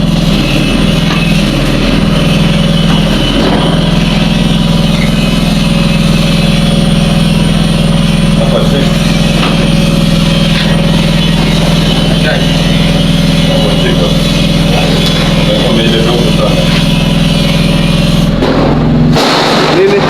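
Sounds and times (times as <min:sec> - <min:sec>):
engine droning steadily: 0:00.0 - 0:20.0.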